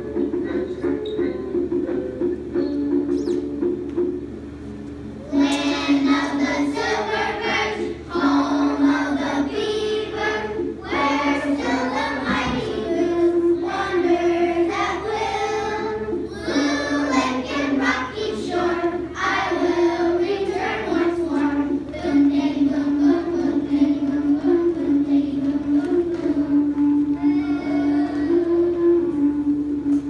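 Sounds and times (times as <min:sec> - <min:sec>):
children singing in unison: 0:05.3 - 0:30.0.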